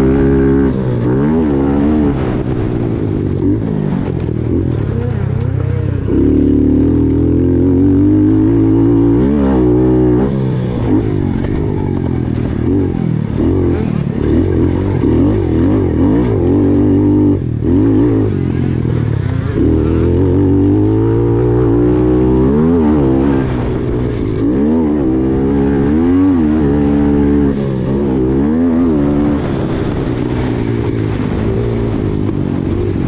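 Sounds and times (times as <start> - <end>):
pit bike engines revving: 0.0 - 33.0.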